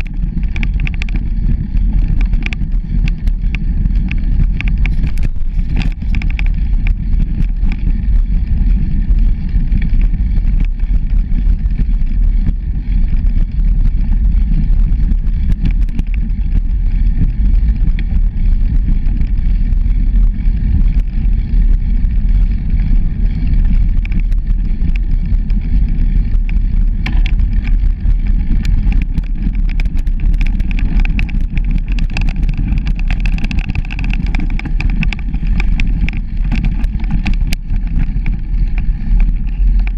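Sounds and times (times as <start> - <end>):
bike rattling and clicking: 0.0 - 39.9
wind rumble on microphone: 0.0 - 39.9.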